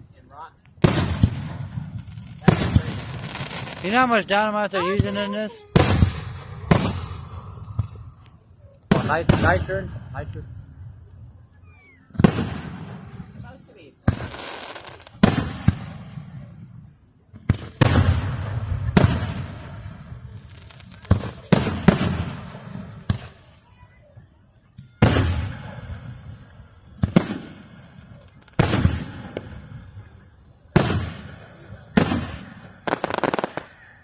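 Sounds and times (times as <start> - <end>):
fireworks exploding: 0.4 - 10.6, 11.3 - 34.0.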